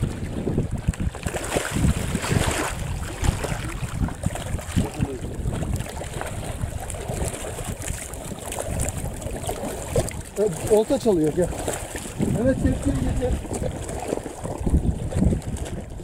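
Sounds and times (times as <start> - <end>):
fish splashing in water: 0.0 - 16.0
wind rumbling on microphone: 0.0 - 16.0.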